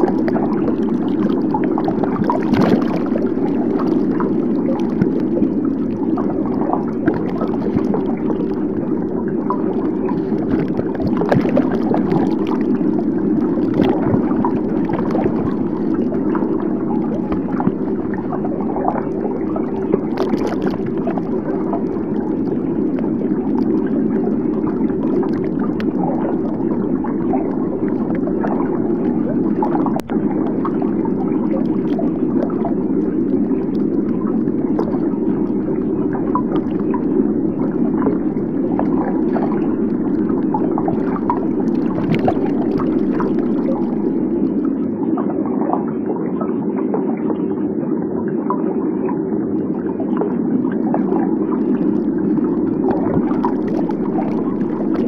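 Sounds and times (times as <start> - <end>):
underwater rushing and gurgling: 0.0 - 55.0.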